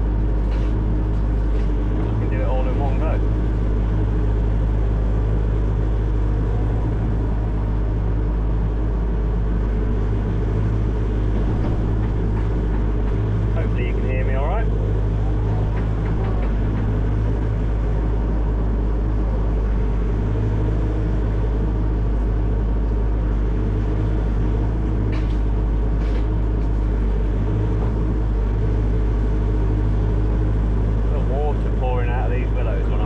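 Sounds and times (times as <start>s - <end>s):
excavator engine and hydraulics: 0.0s - 33.0s.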